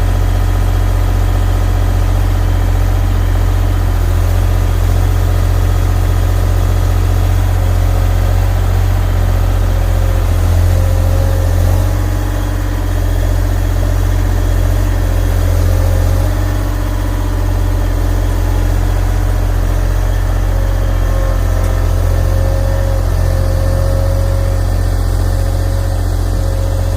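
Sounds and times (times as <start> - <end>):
heavy equipment engine idling: 0.0 - 26.9.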